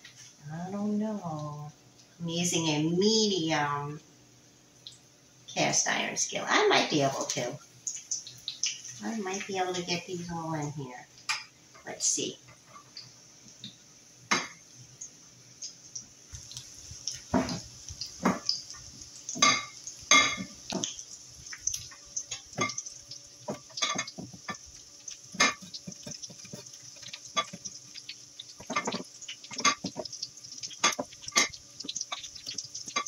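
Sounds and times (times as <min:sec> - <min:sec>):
food frying in hot oil: 0:04.7 - 0:33.0.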